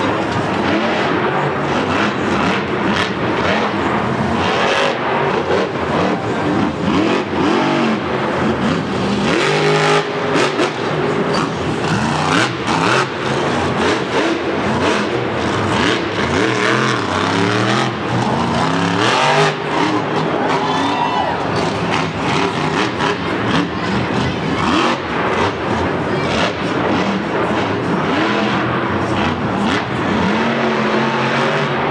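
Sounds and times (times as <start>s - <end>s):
truck engines revving: 0.0s - 31.9s.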